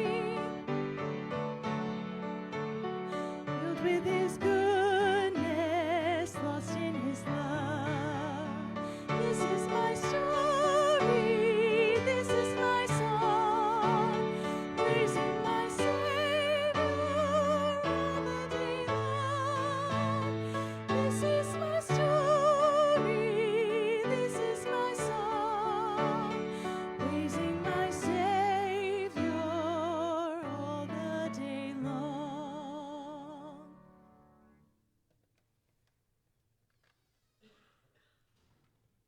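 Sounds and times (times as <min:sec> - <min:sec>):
church worship music: 0:00.0 - 0:34.7.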